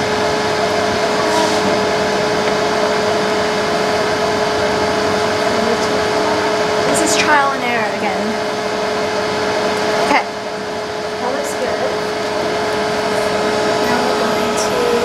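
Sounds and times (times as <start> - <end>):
cnc router whirring hum: 0.0 - 15.0
motors falling whine: 0.0 - 15.0.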